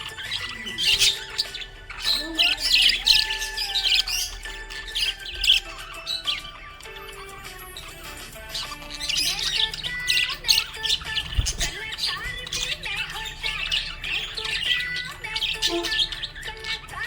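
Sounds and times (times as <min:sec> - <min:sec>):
budgerigar chirping: 0:00.0 - 0:17.0
music playing: 0:00.0 - 0:17.0.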